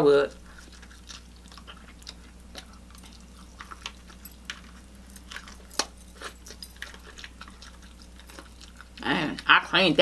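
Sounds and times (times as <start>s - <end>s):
wet chewing and lip smacking: 0.1s - 9.8s.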